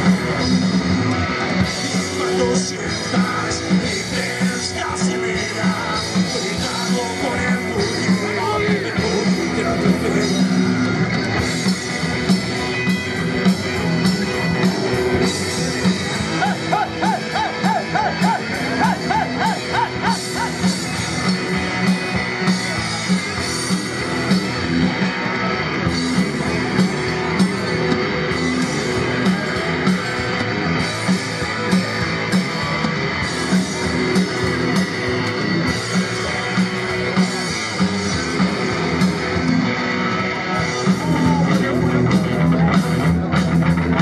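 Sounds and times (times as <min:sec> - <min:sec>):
bass guitar: 0:00.0 - 0:44.0
drum kit beat: 0:00.0 - 0:44.0
electric guitars: 0:00.0 - 0:44.0.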